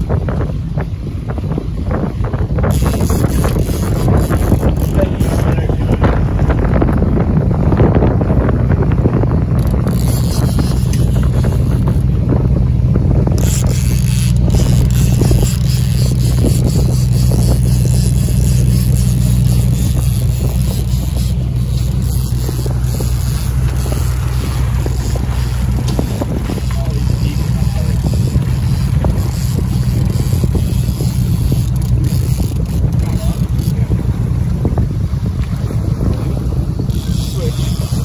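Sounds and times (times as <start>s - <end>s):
boat engine humming: 0.0s - 38.0s
wind buffeting microphone: 0.0s - 38.0s.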